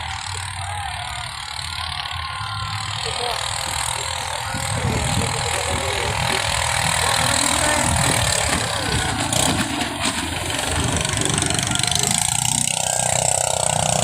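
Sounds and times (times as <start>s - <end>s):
boat engines running: 0.0s - 14.0s.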